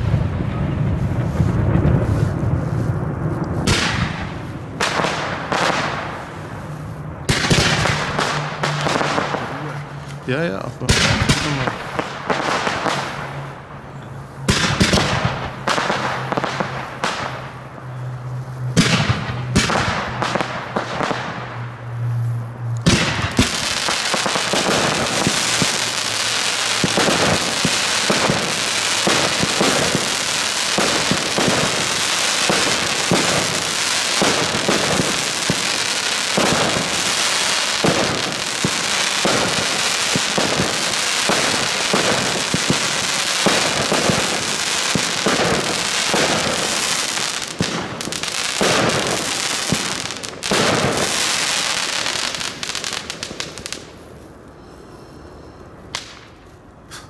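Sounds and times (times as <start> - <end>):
fireworks bursting and crackling: 0.0 - 54.8, 55.7 - 57.0.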